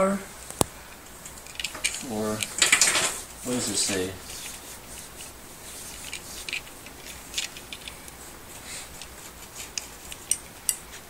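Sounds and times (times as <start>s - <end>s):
handling noise: 0.5s - 11.0s.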